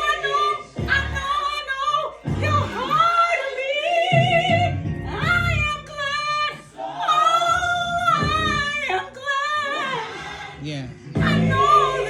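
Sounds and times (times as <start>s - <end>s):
woman singing gospel song: 0.0s - 10.4s, 11.2s - 12.0s.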